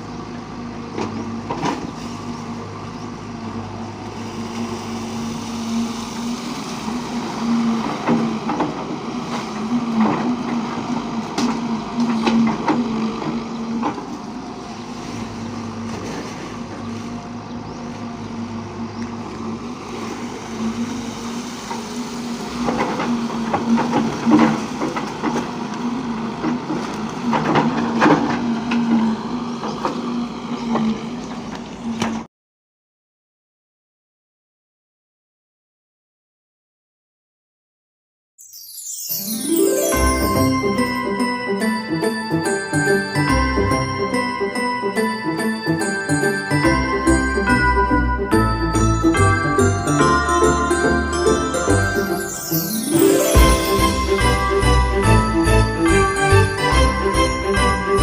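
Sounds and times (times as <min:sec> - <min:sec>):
heavy machine engine running: 0:00.0 - 0:32.1, 0:39.7 - 0:58.0.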